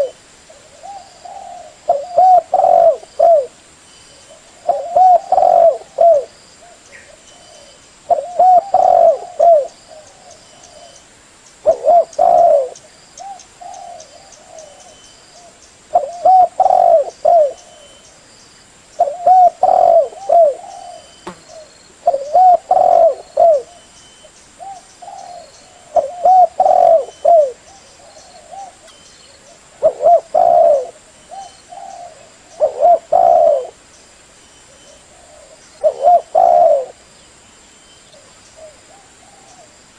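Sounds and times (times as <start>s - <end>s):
dove cooing: 0.0s - 3.6s, 4.2s - 11.0s, 11.6s - 18.0s, 19.0s - 23.9s, 24.6s - 33.8s, 34.7s - 37.0s, 38.1s - 39.7s.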